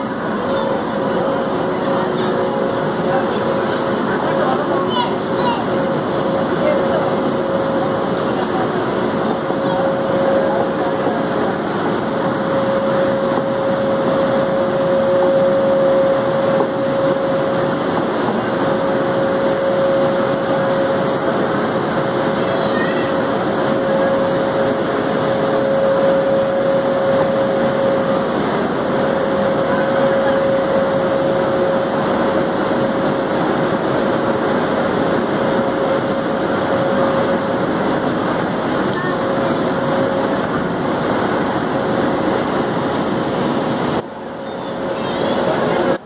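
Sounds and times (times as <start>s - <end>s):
electric locomotive humming: 0.0s - 46.0s
locomotive whine: 0.0s - 46.0s.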